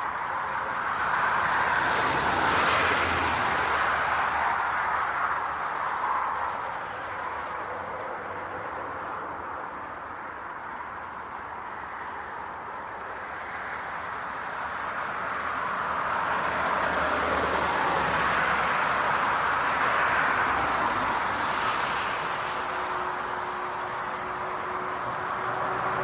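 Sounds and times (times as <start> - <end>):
jet airliner engines roaring: 0.0 - 26.0.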